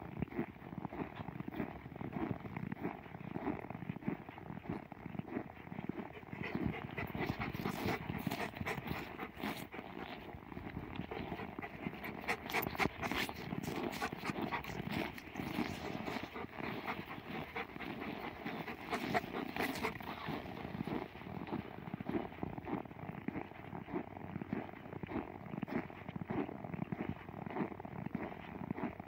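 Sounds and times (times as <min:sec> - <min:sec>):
dog panting: 0:00.2 - 0:29.0
footsteps crunching in snow: 0:00.3 - 0:28.9.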